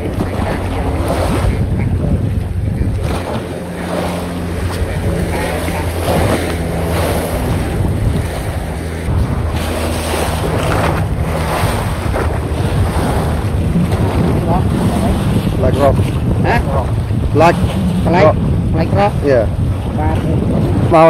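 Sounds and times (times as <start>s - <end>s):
steady low hum: 0.0s - 21.0s
waves splashing against seawall: 0.0s - 21.0s
wind gusts on microphone: 0.0s - 21.0s.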